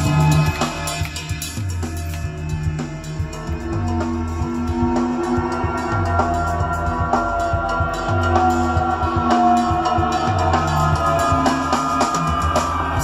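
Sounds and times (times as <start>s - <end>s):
music through speakers: 0.0s - 13.0s.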